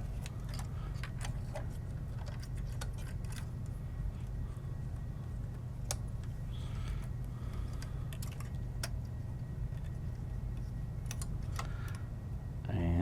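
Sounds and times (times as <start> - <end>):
cable rustling: 0.0 - 12.1
steady low hum: 0.0 - 13.0.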